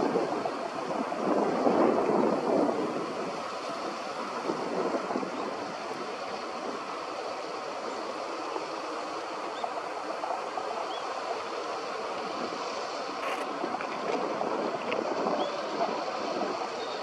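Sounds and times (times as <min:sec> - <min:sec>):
wind rushing through reeds: 0:00.0 - 0:17.0.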